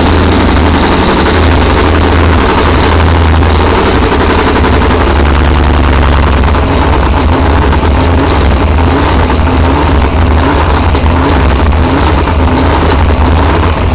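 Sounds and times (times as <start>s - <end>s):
boat engine droning: 0.0s - 13.9s.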